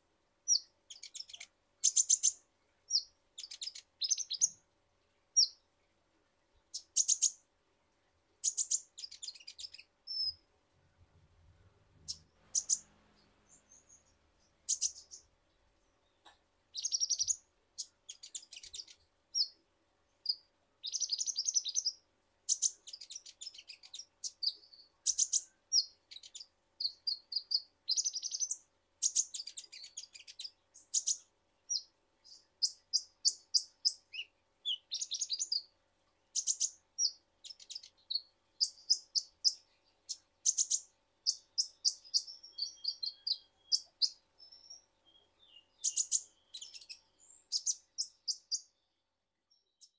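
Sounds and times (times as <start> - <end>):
sunbird singing high chirps: 0.4 - 4.6, 5.3 - 5.7, 6.7 - 7.4, 8.4 - 10.5, 12.0 - 15.3, 15.9 - 19.6, 20.2 - 35.7, 36.3 - 49.9.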